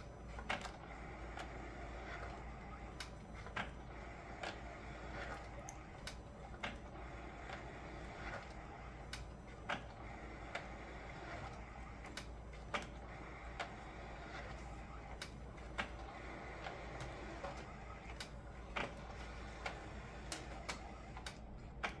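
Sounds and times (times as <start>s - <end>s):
scanner mechanical run: 0.0s - 22.0s.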